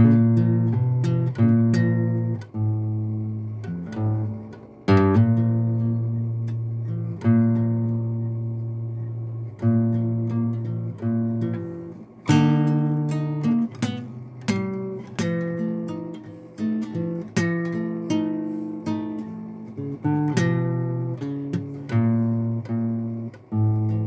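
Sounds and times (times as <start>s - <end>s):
acoustic guitar chords strummed: 0.0s - 24.0s.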